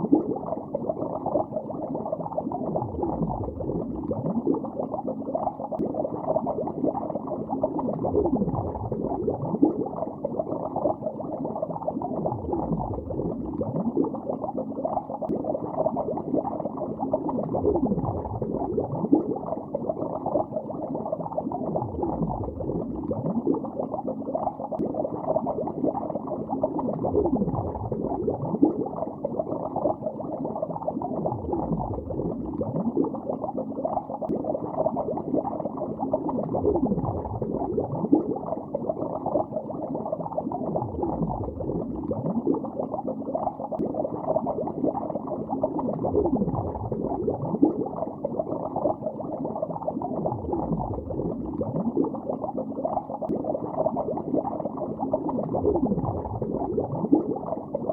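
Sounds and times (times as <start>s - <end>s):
underwater bubbling: 0.0s - 57.9s.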